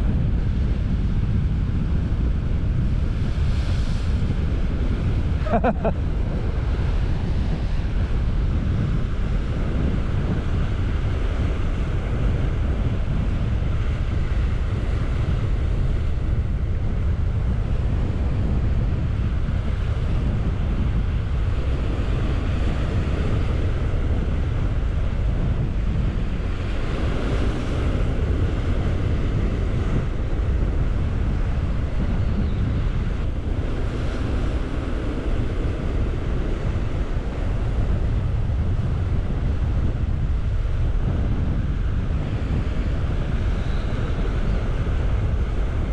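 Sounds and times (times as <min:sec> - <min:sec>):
wind rumbling on microphone: 0:00.0 - 0:45.9.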